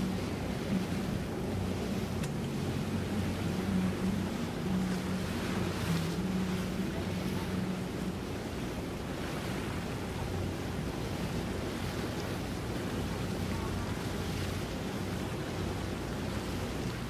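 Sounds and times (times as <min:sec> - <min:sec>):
faint low engine hum: 0:00.0 - 0:17.0
water noise: 0:00.0 - 0:17.0
wind buffeting microphone: 0:00.0 - 0:17.0.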